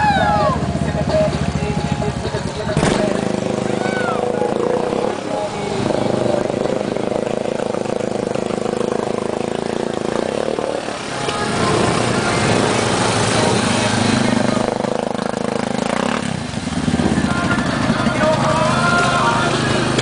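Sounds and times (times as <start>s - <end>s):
atv engine revving: 0.0s - 20.0s
tires churning through muddy water: 0.0s - 20.0s.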